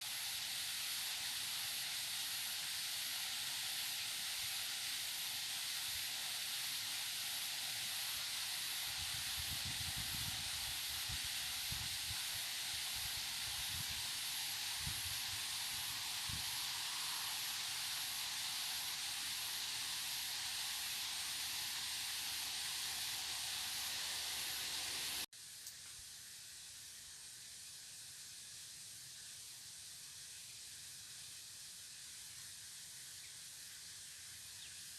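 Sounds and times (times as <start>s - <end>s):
steady hissing noise: 0.0s - 34.9s.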